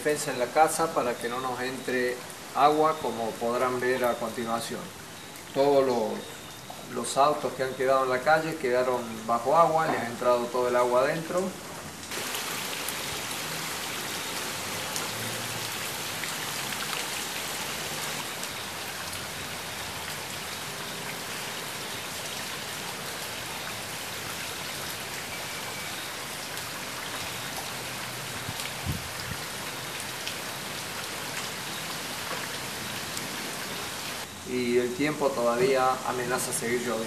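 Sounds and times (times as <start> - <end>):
rain splashing on water: 0.0 - 37.0.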